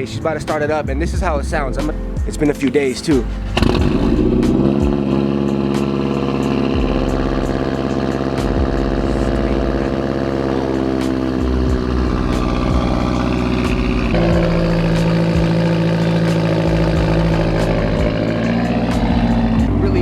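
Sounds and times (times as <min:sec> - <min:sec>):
car engine idling loudly: 0:00.0 - 0:20.0.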